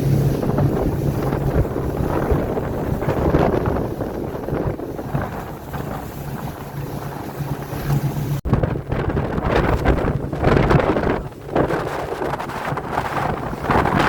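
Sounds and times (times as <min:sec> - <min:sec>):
boat engine humming: 0:00.0 - 0:14.0
wind buffeting microphone: 0:00.0 - 0:14.0.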